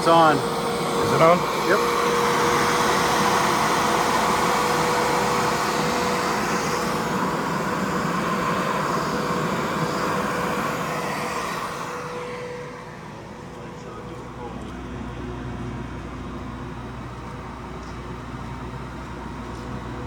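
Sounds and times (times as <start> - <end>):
air conditioner whirring: 0.0 - 20.0.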